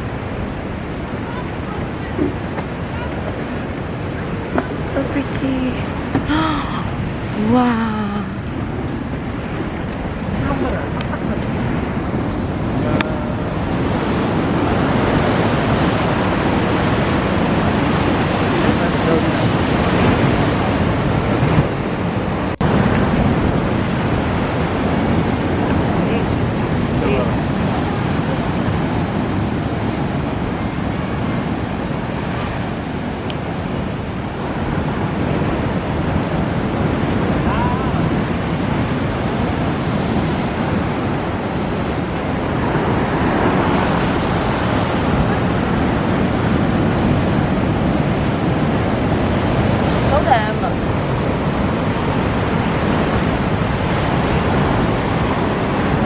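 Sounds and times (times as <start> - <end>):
ocean waves washing on shore: 0.0 - 56.0
wind buffeting microphone: 0.0 - 56.0.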